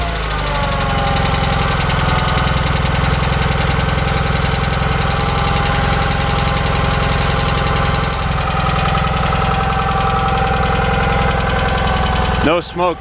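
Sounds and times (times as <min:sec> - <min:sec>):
engine running with exhaust pulse: 0:00.0 - 0:13.0.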